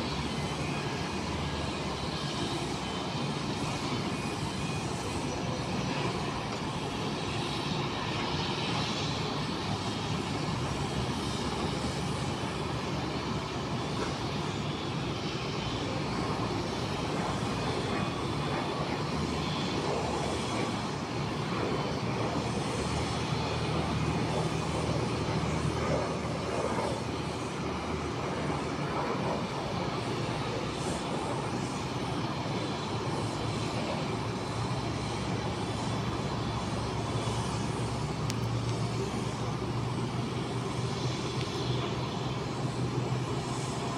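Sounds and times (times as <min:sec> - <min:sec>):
jet engines rumbling: 0:00.0 - 0:43.9.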